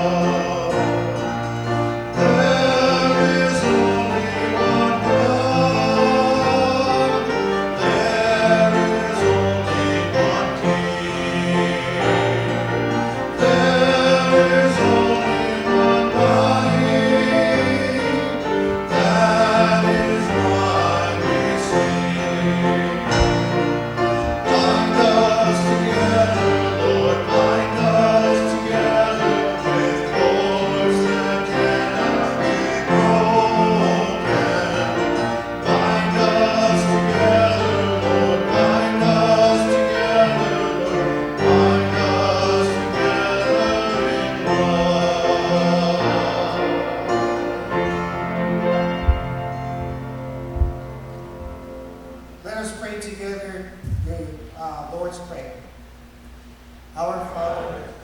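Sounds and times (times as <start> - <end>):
several voices singing worship song: 0.0 - 50.0, 57.0 - 58.0
instrumental accompaniment: 0.0 - 52.8.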